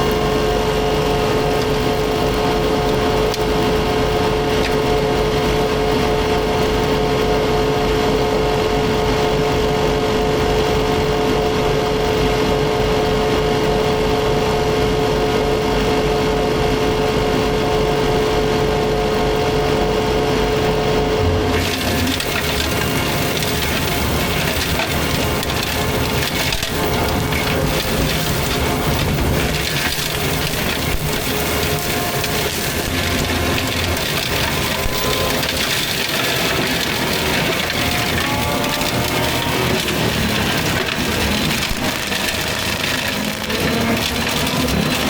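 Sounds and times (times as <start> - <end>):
loader engine running: 0.0 - 45.0
mulcher drum whine: 0.0 - 45.0.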